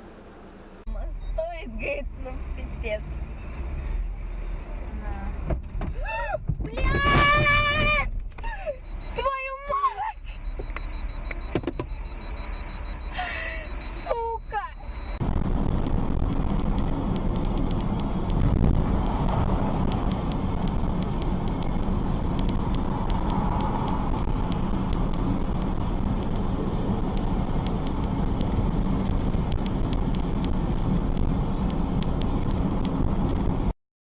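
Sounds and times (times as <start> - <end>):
car engine rumble: 0.0 - 33.8
tyres on road: 0.0 - 33.8.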